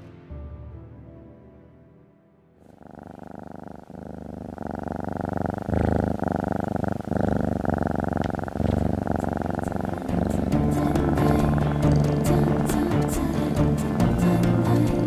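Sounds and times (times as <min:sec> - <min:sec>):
cat purring: 0:02.6 - 0:15.0.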